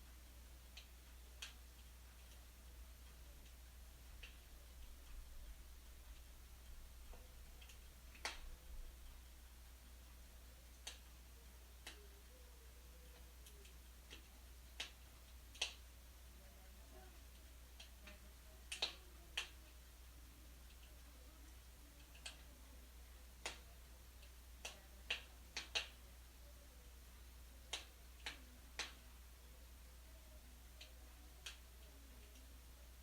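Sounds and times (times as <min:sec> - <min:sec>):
faint low hum: 0:00.0 - 0:33.0
wood fire crackling: 0:00.0 - 0:33.0.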